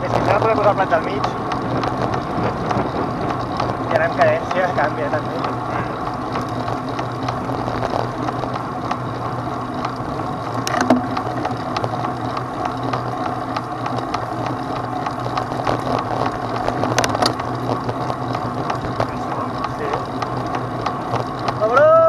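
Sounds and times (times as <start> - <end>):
vehicle droning on dirt track: 0.0 - 22.0.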